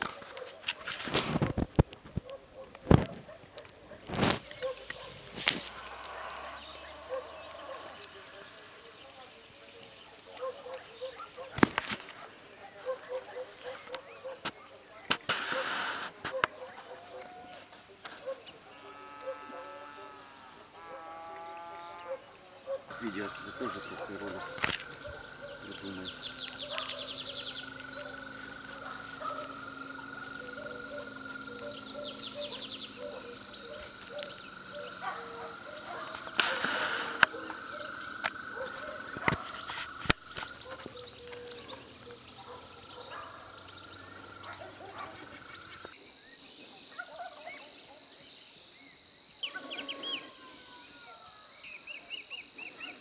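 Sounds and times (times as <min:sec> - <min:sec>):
birds and animals calling: 0:00.0 - 0:53.0.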